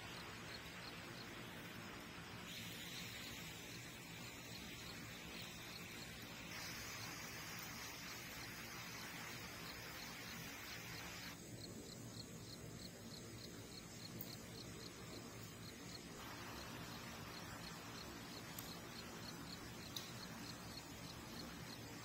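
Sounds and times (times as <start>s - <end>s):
cricket chirping: 0.0s - 22.0s
faint steady hiss: 0.0s - 22.0s.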